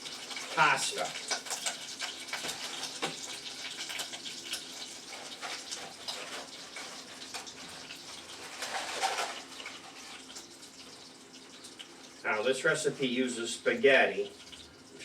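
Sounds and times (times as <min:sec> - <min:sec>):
butter and oil sizzling in a saucepan: 0:00.0 - 0:15.0.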